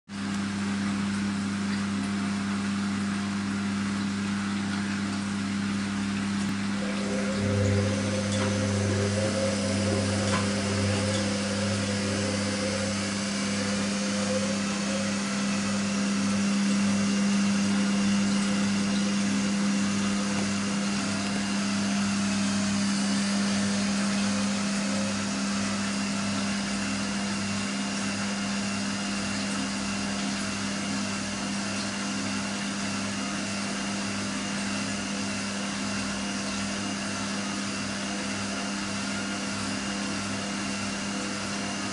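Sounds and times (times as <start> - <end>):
washing machine spinning: 0.2 - 41.9.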